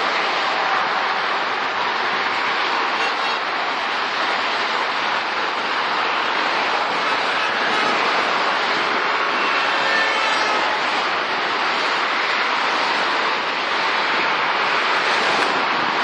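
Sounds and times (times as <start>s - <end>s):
freeway traffic rushing: 0.0s - 16.0s.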